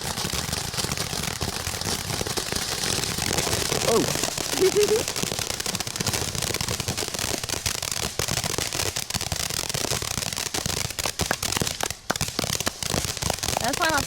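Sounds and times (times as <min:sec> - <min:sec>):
fireworks crackling pops: 0:00.0 - 0:14.0.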